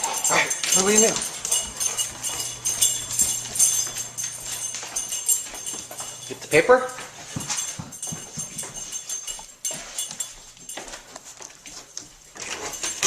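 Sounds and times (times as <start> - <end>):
dog claws tapping on floor: 0.0 - 13.0.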